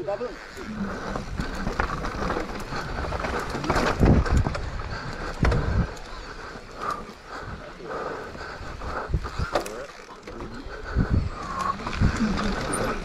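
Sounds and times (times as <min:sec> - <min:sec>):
bike rattling: 0:00.0 - 0:13.0
bike tyres over dirt and roots: 0:00.0 - 0:13.0.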